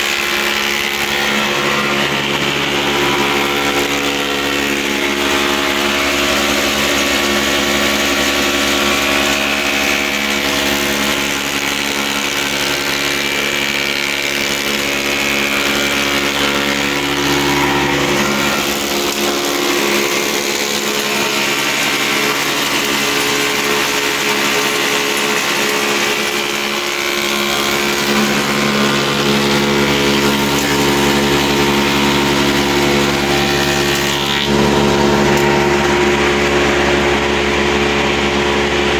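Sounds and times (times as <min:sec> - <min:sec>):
motor humming: 0:00.0 - 0:38.9
planer cutting wood: 0:00.0 - 0:38.9.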